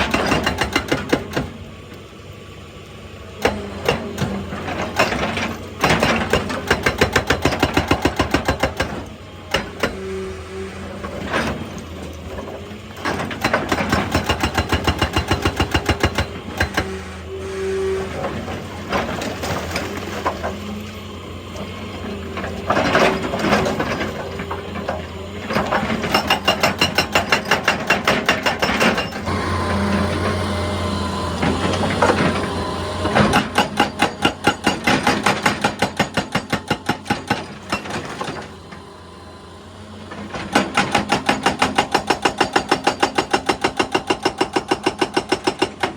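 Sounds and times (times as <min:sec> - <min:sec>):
hydraulic breaker pounding rock: 0:00.0 - 0:02.0, 0:03.4 - 0:39.0, 0:40.0 - 0:45.9
excavator engine hum: 0:00.0 - 0:45.9.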